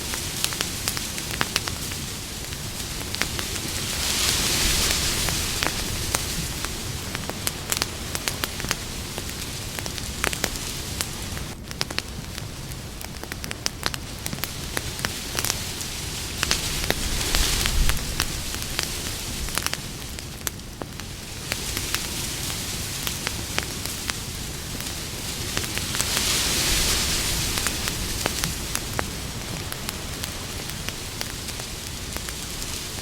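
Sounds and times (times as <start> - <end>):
campfire hissing and crackling: 0.0 - 33.0.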